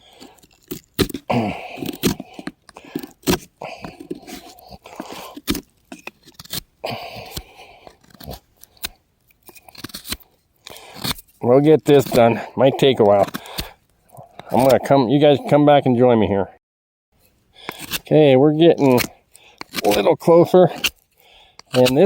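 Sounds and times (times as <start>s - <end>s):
wood cracking: 0.0s - 14.8s, 17.6s - 22.0s
knife scraping wood: 0.0s - 15.5s, 17.2s - 22.0s.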